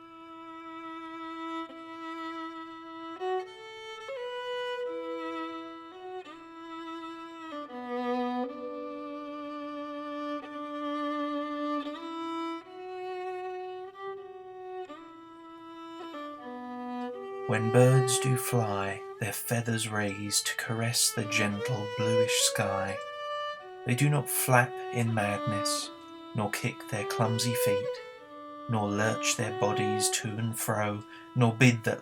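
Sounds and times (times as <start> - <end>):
slow solo violin melody: 0.0 - 32.0.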